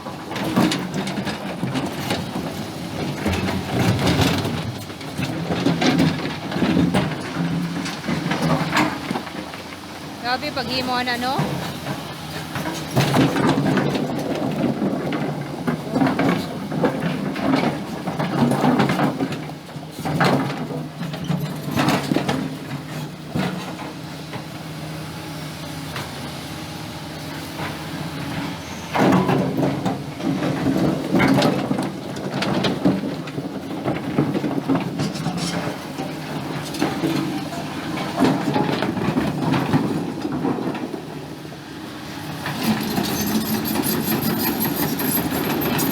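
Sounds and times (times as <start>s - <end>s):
excavator diesel engine working: 0.0s - 45.9s.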